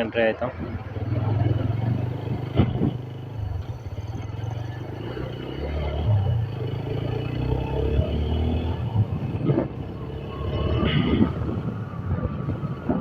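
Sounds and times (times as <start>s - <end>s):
motorcycle engine running: 0.5s - 13.0s.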